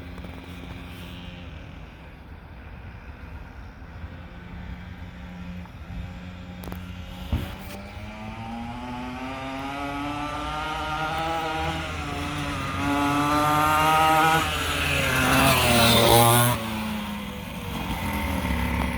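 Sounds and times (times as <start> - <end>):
small dirt bike engine revving: 0.0 - 18.9.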